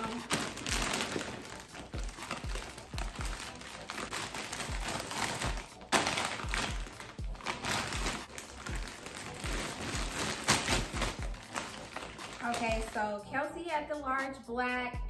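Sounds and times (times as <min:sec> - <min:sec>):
plastic packaging crinkling: 0:00.0 - 0:13.1
music with steady bass beat: 0:00.0 - 0:15.0.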